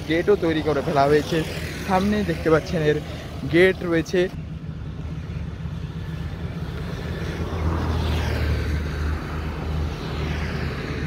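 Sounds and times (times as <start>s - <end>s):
traffic engine hum: 0.0s - 11.0s
vehicle passing by: 0.0s - 11.0s.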